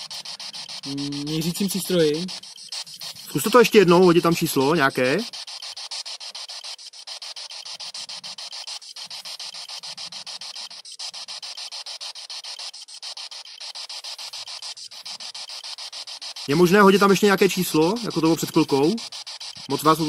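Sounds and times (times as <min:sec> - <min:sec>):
pulsing radio static: 0:00.0 - 0:20.0.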